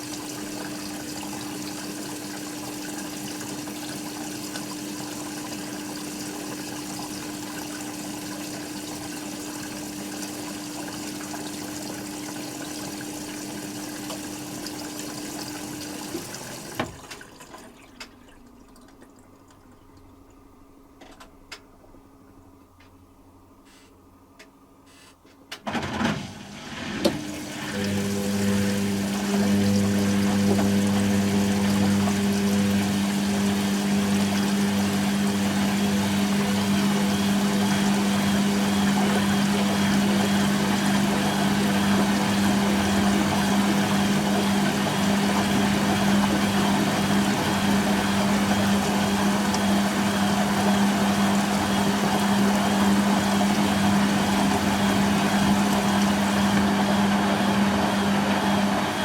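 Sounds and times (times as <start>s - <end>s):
washing machine spinning: 0.0s - 23.2s, 25.6s - 59.0s.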